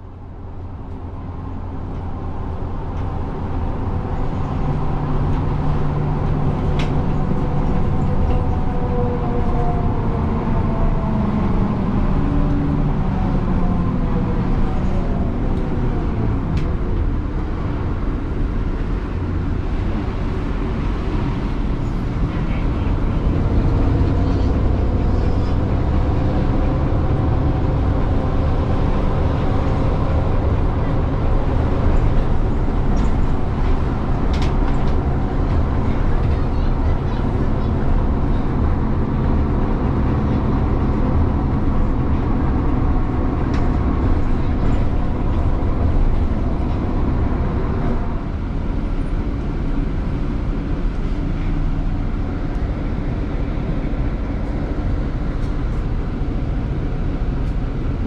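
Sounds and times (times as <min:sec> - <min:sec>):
vehicle running rumble: 0:00.0 - 0:58.0.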